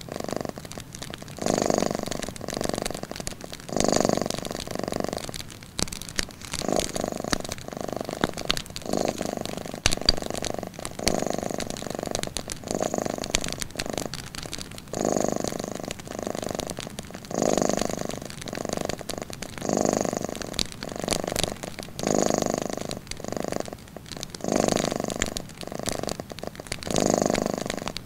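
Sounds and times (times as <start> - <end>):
cat purring: 0.0 - 28.0
wood fire crackling: 0.0 - 28.0.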